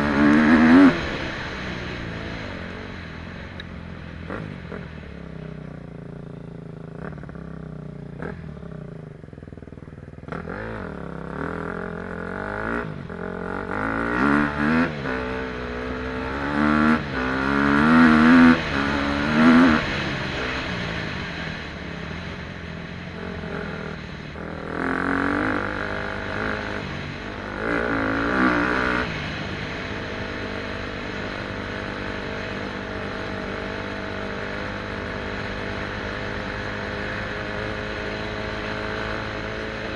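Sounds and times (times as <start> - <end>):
dirt bike engine revving: 0.0 - 3.0, 10.2 - 39.9.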